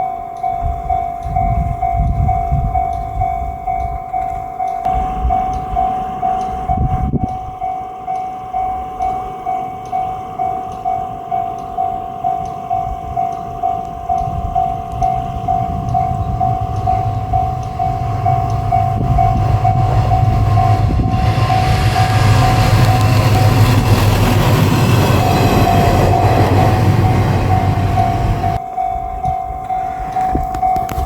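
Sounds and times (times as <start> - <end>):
level crossing bell ringing: 0.0 - 23.8, 24.4 - 31.0
diesel railcar rumble: 4.9 - 7.8, 8.5 - 31.0.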